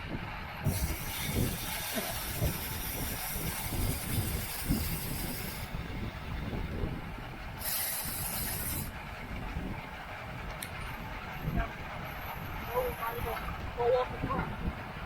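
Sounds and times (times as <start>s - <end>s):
bicycle road rumble: 0.0s - 15.0s
wind buffeting: 0.0s - 15.0s.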